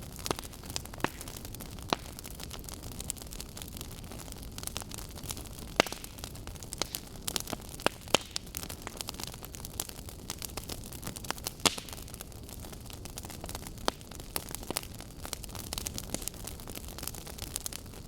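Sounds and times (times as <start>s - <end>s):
burning wood crackling and popping: 0.0s - 18.0s.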